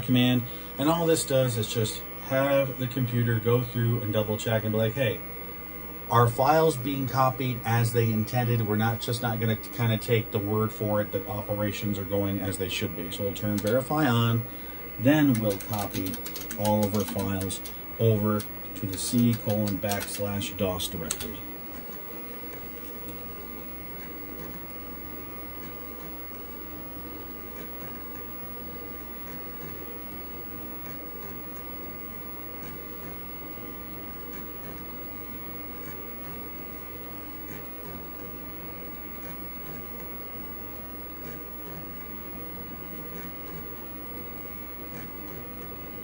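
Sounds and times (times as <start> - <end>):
computer drives and fan humming: 0.0 - 46.0.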